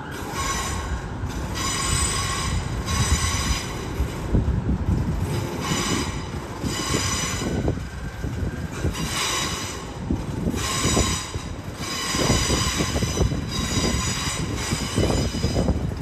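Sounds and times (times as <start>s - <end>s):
wheels squealing: 0.0s - 4.3s, 5.2s - 16.0s
train rumbling on tracks: 0.0s - 16.0s.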